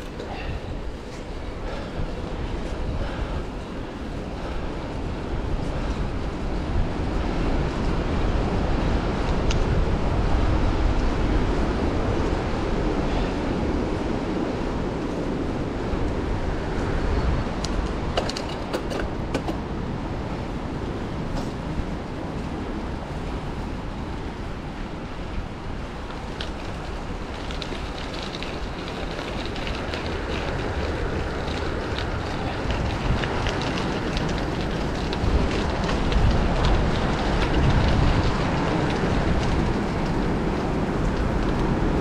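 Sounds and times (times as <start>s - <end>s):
bicycle tyres rolling: 0.0s - 42.0s
wind rush on microphone: 0.0s - 42.0s.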